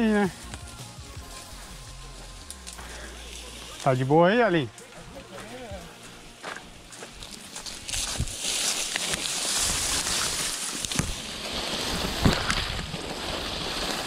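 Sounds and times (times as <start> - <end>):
bike tyre noise on dirt: 0.0 - 14.0.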